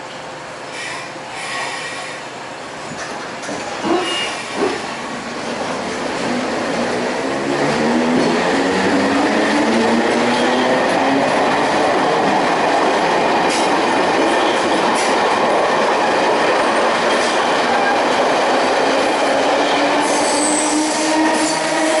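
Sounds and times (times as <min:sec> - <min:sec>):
train wheels clattering over track: 0:02.8 - 0:22.0.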